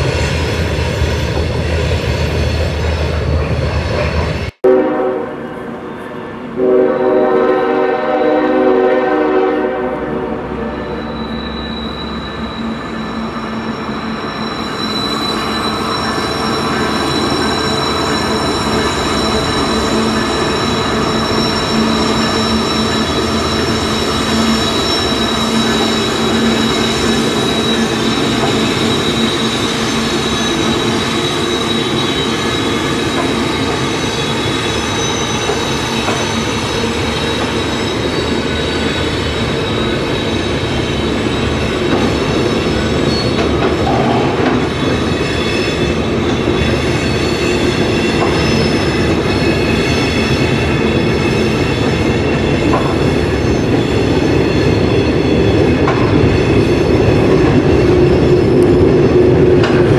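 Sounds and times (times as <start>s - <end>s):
train cars rumbling: 0.0s - 59.9s
high wheel squeal: 10.3s - 59.9s.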